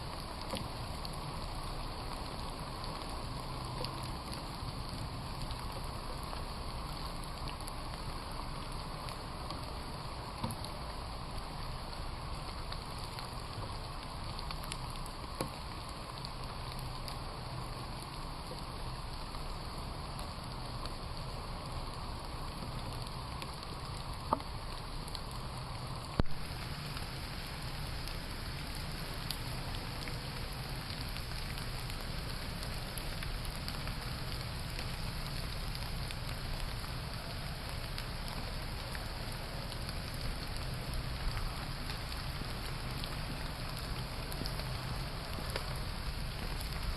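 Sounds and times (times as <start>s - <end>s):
rain pattering: 0.0s - 46.9s.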